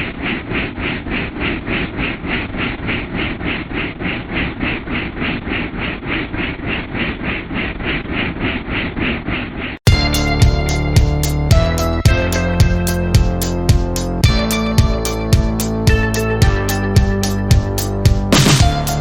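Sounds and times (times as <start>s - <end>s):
pulsing mechanical noise: 0.0s - 19.0s.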